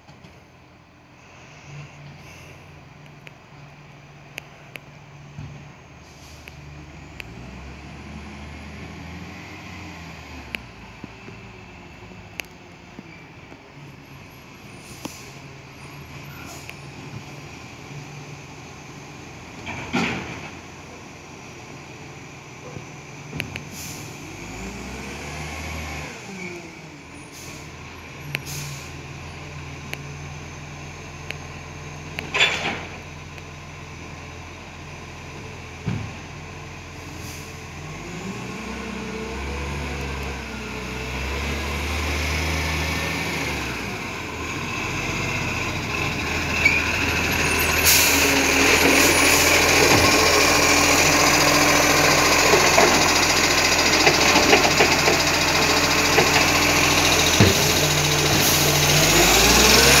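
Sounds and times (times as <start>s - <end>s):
garbage truck diesel engine: 0.0s - 60.0s.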